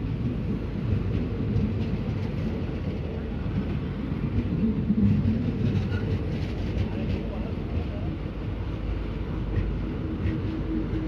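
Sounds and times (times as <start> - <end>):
train coaches rumbling past: 0.0 - 11.0.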